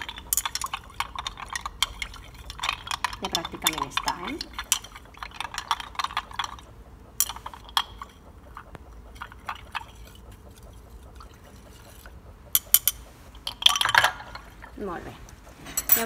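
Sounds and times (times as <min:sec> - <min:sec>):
liquid swishing in beaker: 0:00.0 - 0:15.6.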